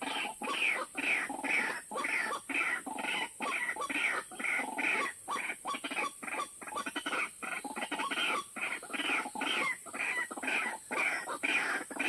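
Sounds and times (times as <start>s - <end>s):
bird harsh croaking calls: 0.0s - 12.0s
steady high-pitched hiss: 0.0s - 12.0s.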